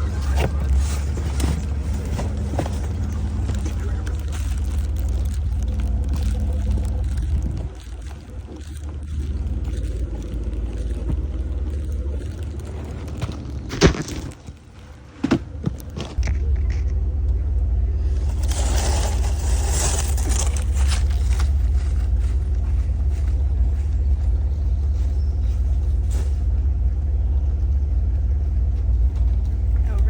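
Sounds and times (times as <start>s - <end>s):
car engine rumble from inside: 0.0s - 30.0s.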